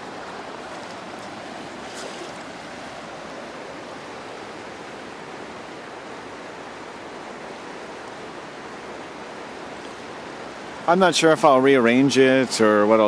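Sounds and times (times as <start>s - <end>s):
river water running over rocks: 0.0s - 13.0s.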